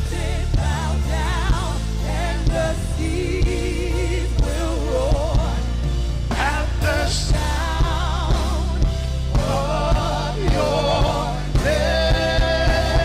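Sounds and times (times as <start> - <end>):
bass: 0.0 - 13.0
steady drum beat: 0.0 - 13.0.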